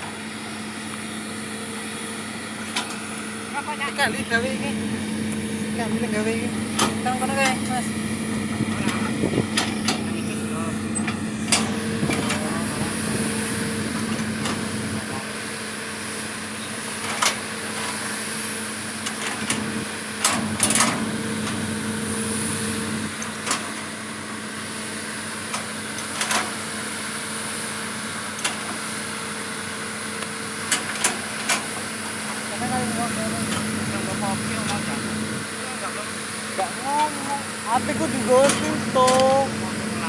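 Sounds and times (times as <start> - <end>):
vehicle engine idling: 0.0 - 15.3, 20.8 - 40.0.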